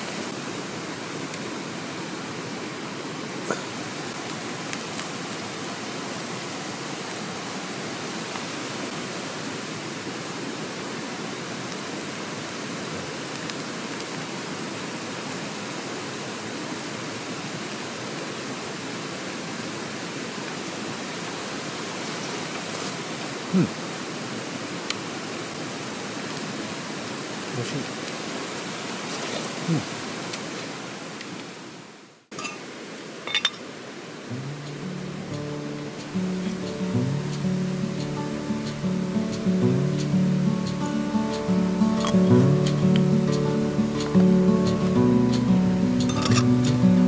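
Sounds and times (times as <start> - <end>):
mountain stream rushing: 0.0 - 47.0.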